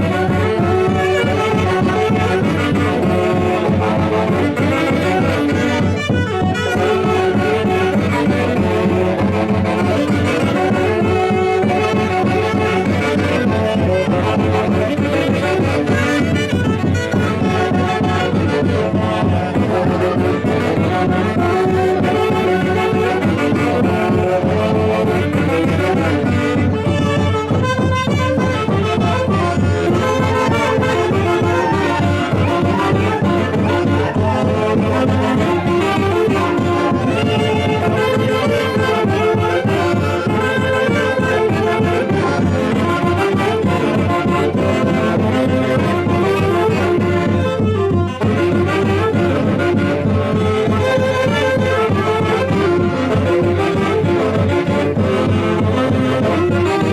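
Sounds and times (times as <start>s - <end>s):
wind ensemble playing folk music: 0.0s - 56.9s.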